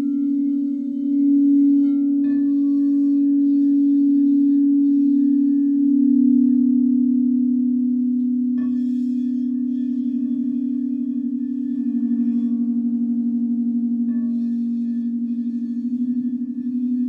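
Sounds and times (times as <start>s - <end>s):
higher bowl struck ringing: 0.0s - 17.0s
singing bowls low drone: 0.0s - 17.0s.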